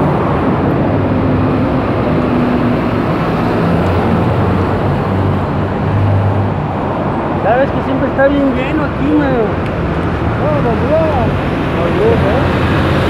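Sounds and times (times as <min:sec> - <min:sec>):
passing cars and buses: 0:00.0 - 0:13.0.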